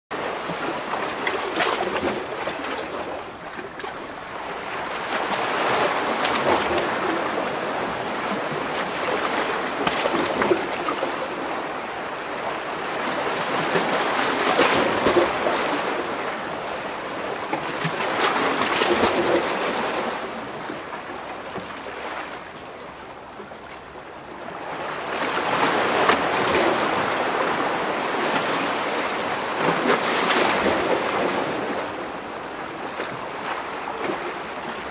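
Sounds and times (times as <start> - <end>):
waves splashing on rocks: 0.2 - 11.6, 12.2 - 22.4, 24.6 - 34.9.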